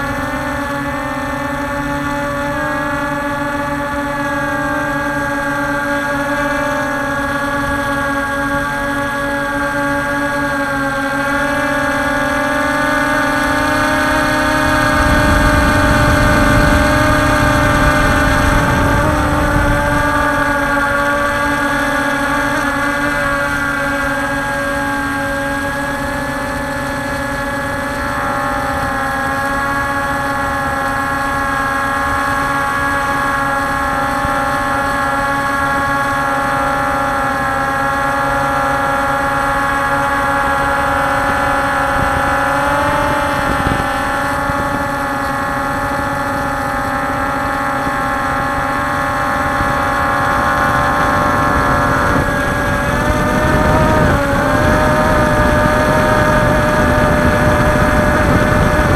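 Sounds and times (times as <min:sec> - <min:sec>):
drone propellers whining: 0:00.0 - 0:58.9.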